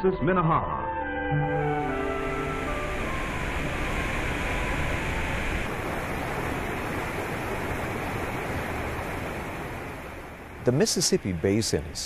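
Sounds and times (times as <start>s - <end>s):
waterfall roaring: 1.5s - 12.0s.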